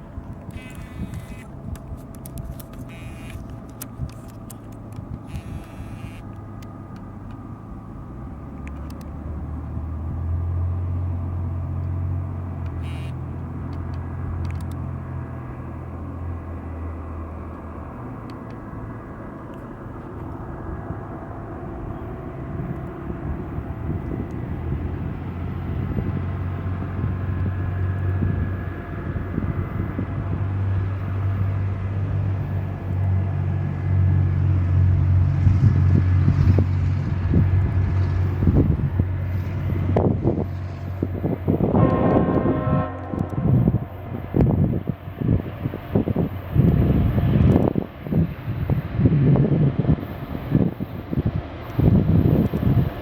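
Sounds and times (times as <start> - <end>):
locomotive diesel engine droning: 0.0 - 53.0.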